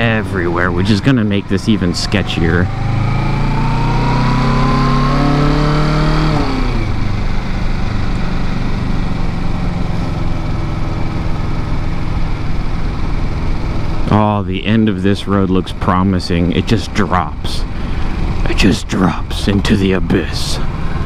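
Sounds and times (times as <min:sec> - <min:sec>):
motorcycle engine accelerating: 0:00.0 - 0:21.0
road noise rushing: 0:00.0 - 0:21.0.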